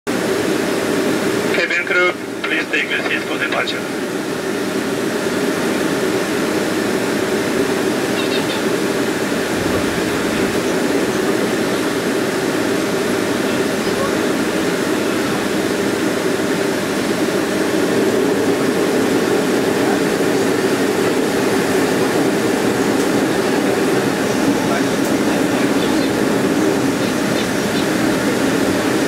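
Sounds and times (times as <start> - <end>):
jet engine and cabin noise: 0.1 - 29.0.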